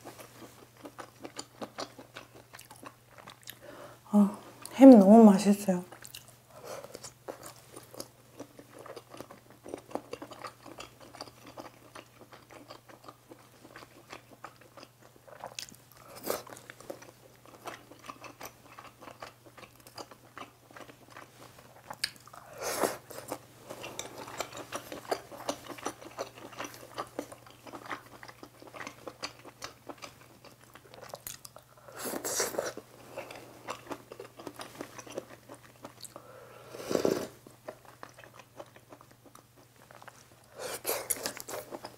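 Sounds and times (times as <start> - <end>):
close chewing and biting: 0.0 - 3.6, 5.9 - 36.2, 37.6 - 41.9
faint steady hum: 0.0 - 41.9.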